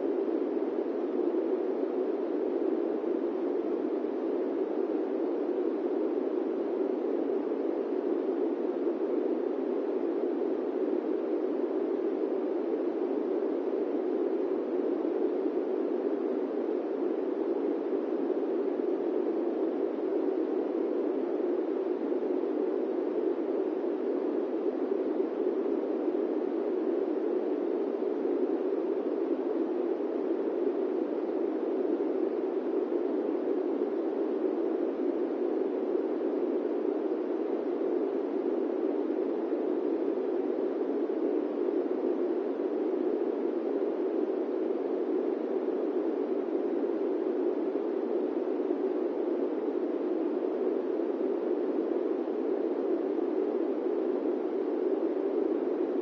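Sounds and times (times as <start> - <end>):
airplane cabin white noise: 0.0 - 56.0.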